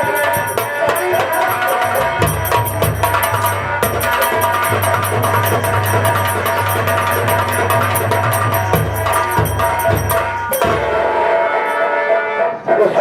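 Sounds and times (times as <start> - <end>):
fast percussion beat: 0.0 - 11.4
melody line: 0.0 - 11.8.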